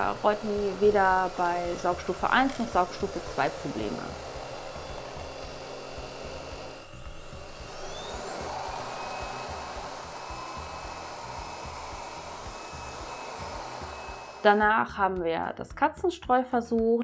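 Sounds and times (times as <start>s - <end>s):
vacuum cleaner running: 0.0s - 14.6s.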